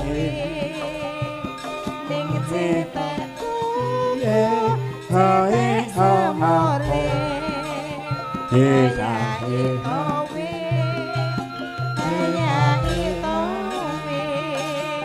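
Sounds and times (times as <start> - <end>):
gamelan accompaniment: 0.0 - 15.0
woman singing with vibrato: 0.0 - 15.0.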